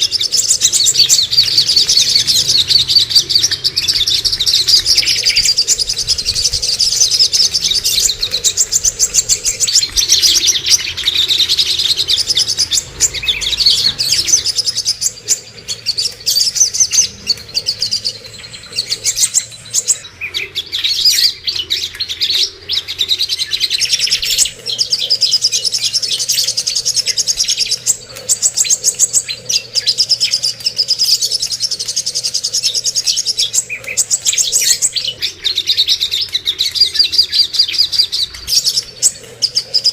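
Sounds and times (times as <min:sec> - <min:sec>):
cage birds chirping and trilling: 0:00.0 - 0:39.9.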